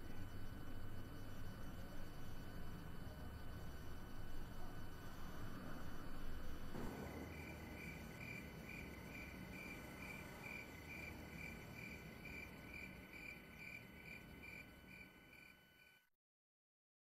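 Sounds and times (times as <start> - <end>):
cricket chirping: 0.0 - 16.1.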